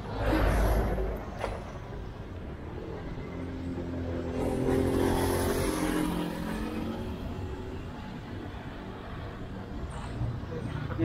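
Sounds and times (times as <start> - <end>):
vehicle passing by: 0.0 - 8.9.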